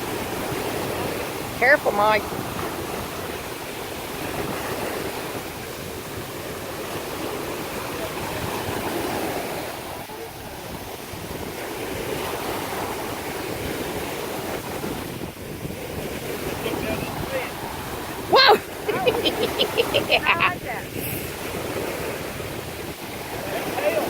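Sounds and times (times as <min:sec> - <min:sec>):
ocean waves washing in: 0:00.0 - 0:24.0
wind buffeting microphone: 0:00.0 - 0:24.0.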